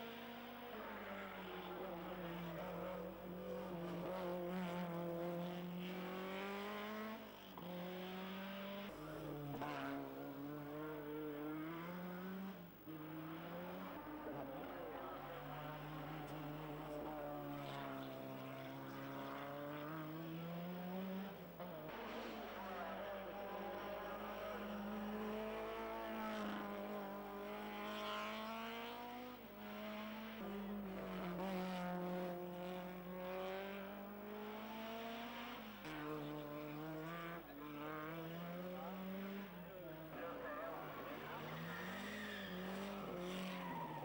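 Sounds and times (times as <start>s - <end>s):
racing car engines revving: 0.0s - 44.0s.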